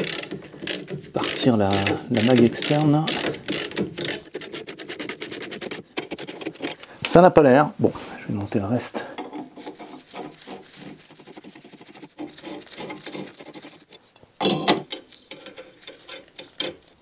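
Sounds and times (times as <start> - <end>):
steel parts clicking and rubbing: 0.0 - 6.9, 9.1 - 17.0.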